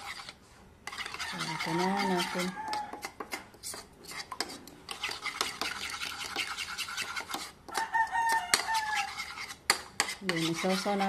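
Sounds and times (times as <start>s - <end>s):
spoon beating eggs in bowl: 0.0s - 11.0s.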